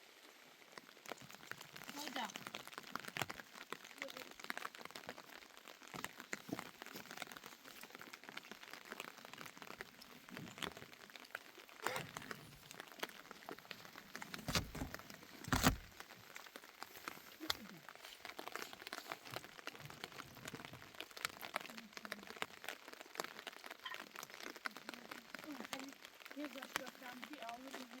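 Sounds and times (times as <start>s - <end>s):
crackling and rustling: 0.1s - 28.0s.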